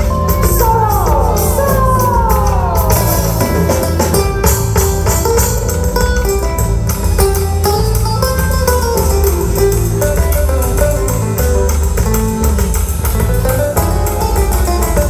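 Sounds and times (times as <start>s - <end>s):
live band playing latin music: 0.0s - 15.0s.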